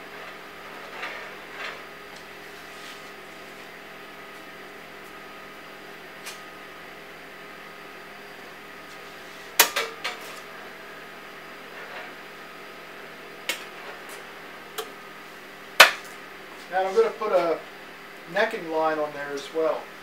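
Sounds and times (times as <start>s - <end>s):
steady hum with held tones: 0.0s - 20.0s.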